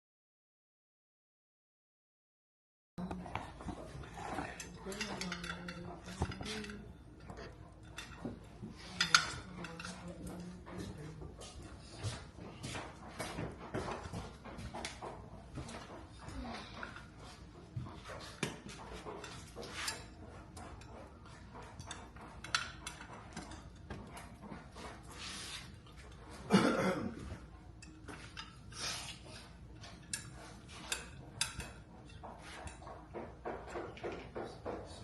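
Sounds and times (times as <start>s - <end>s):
clinks and knocks of handling: 3.0s - 35.0s.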